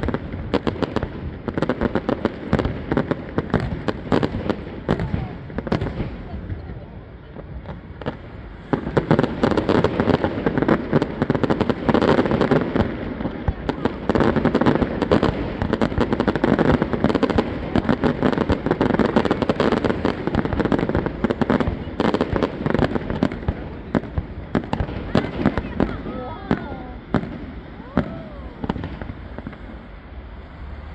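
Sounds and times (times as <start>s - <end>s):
continuous rumble: 0.0s - 30.9s
fireworks cracks and bangs: 0.0s - 30.9s.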